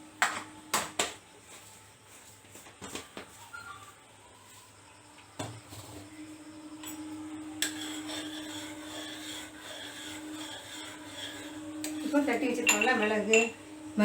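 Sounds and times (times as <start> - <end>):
pot heating hum and hiss: 0.0 - 14.0.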